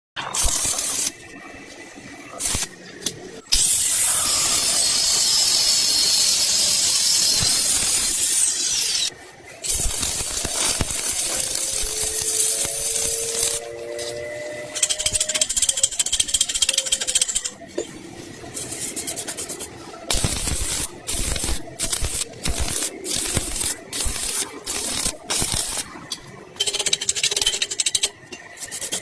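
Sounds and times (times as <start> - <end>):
welding arc crackling: 0.2 - 17.6, 18.4 - 29.0.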